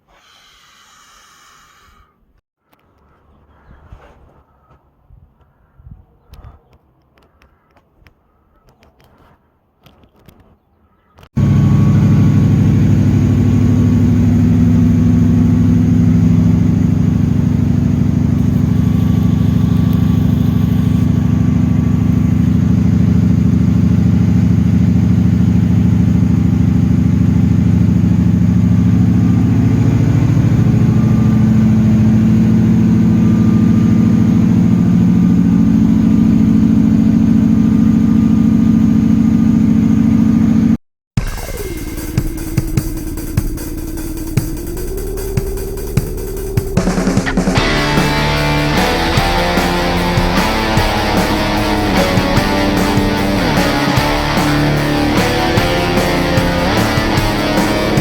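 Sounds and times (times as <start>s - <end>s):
vehicle engine idling: 11.4s - 58.0s.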